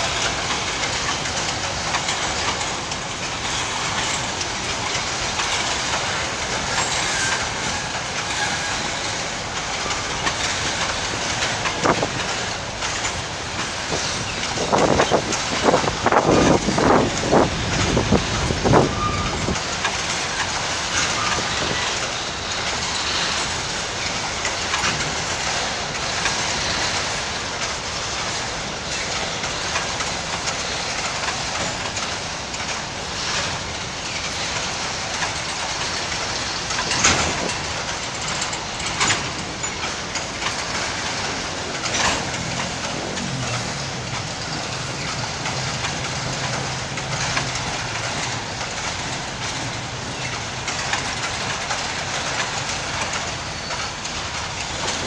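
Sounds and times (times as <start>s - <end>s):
freight train rumble: 0.0s - 55.0s
train wheels clicking over rail joints: 0.0s - 55.0s.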